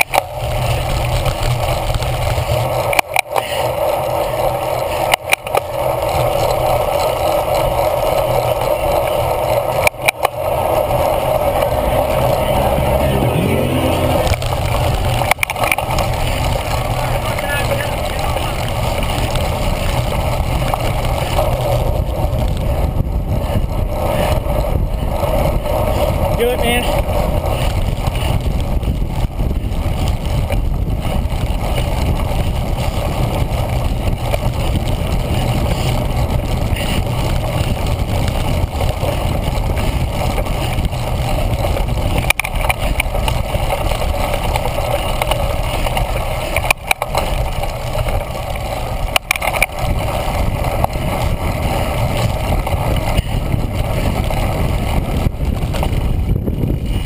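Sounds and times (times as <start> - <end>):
bike riding over grass: 0.0 - 57.0
wind rumble: 0.0 - 57.0.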